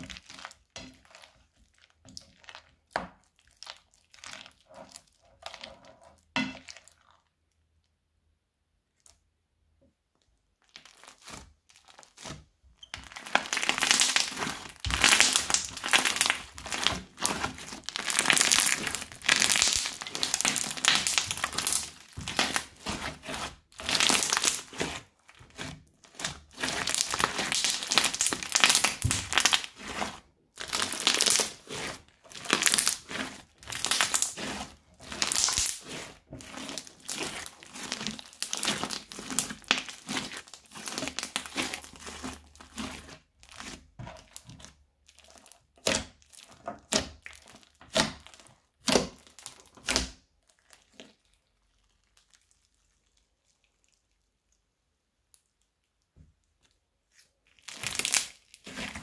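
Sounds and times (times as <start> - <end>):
crunchy slime being squeezed: 0.0 - 5.7, 10.6 - 54.5, 56.5 - 59.0.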